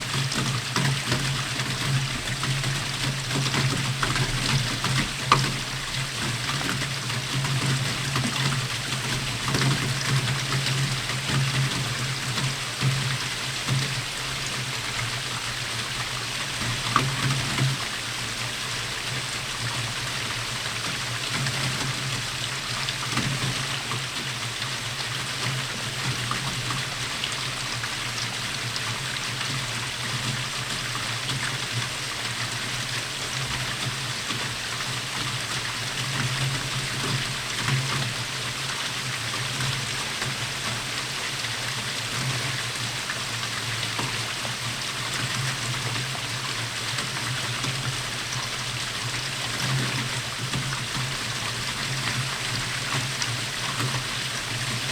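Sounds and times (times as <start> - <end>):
rain patter: 0.0 - 54.9.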